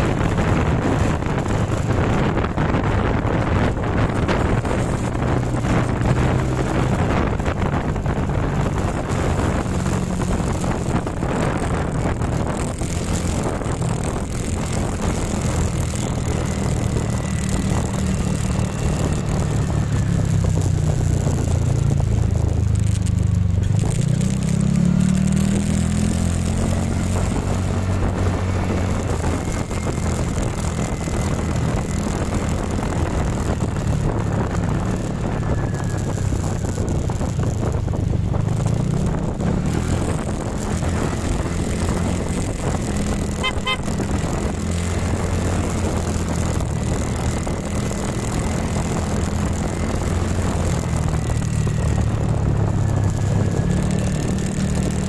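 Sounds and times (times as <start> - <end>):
motorbike engine running: 0.0 - 55.0
wind noise on microphone: 0.0 - 55.0.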